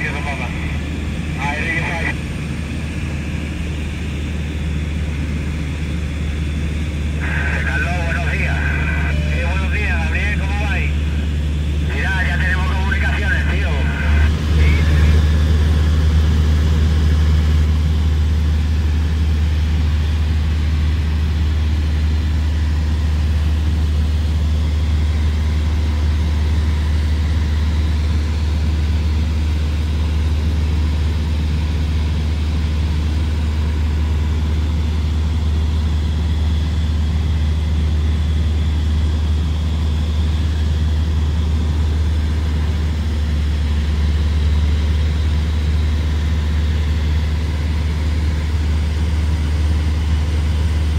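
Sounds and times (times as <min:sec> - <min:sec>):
light aircraft engine droning: 0:00.0 - 0:50.9.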